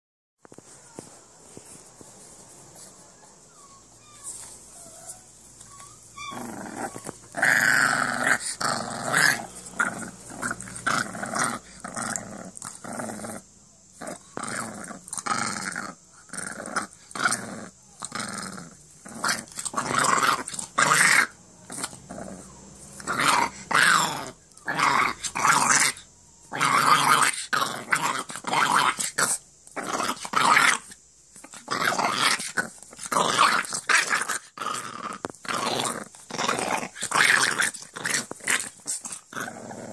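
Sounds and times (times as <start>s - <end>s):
puppy growling: 2.8s - 39.9s.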